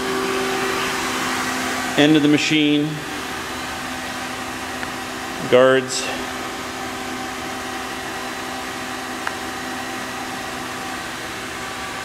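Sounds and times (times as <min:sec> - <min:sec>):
fan-like hum of equipment: 0:00.0 - 0:12.0.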